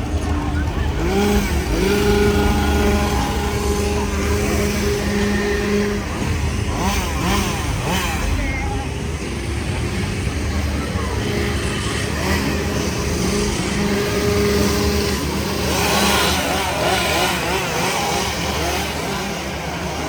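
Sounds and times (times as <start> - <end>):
chainsaw engines revving: 0.0 - 20.0
people's voices: 0.0 - 20.0.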